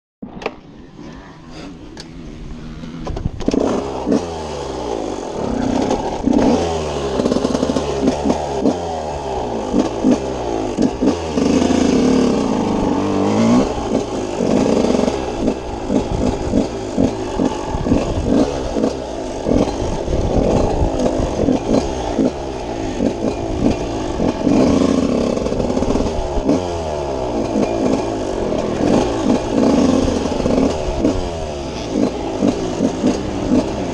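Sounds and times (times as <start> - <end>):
motorbike engine revving: 1.5 - 33.9.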